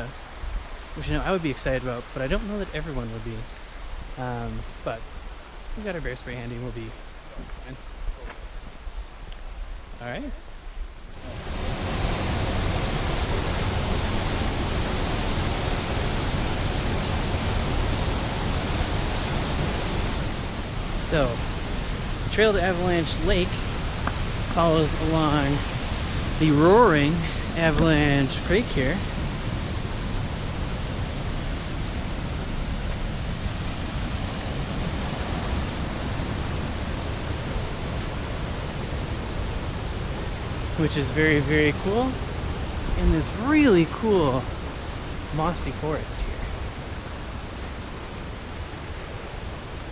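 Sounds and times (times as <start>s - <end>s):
mountain creek roaring: 0.0s - 49.9s.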